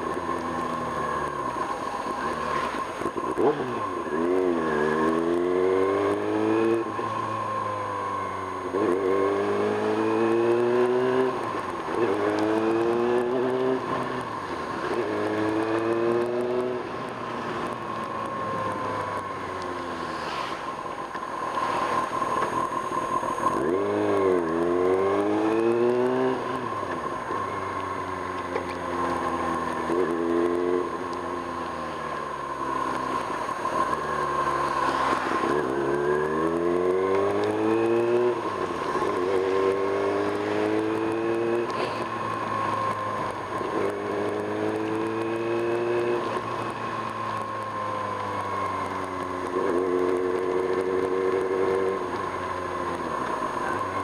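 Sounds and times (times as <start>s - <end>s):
high-pitched whine: 0.0s - 54.0s
motorcycle engine revving: 0.0s - 54.0s.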